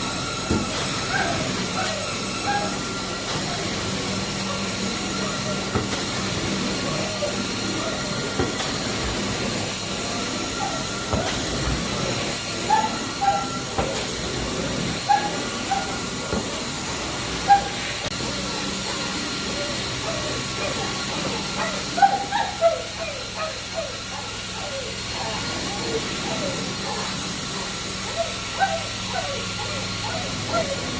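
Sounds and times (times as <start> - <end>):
carpet cleaning machine hissing: 0.0 - 30.9.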